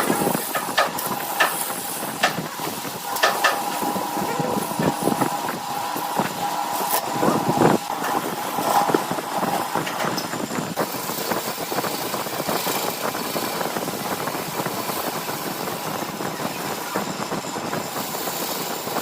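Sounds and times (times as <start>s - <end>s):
rapid crackle of cut workpiece: 0.0s - 19.0s
woodturning lathe running: 0.0s - 19.0s.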